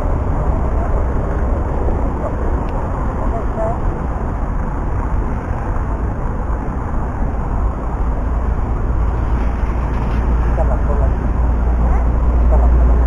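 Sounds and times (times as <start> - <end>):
passing cars and buses: 0.0 - 13.0.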